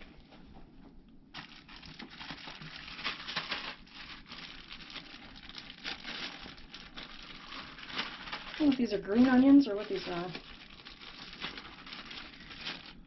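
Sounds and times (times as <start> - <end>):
plastic bag crinkling: 1.3 - 13.0.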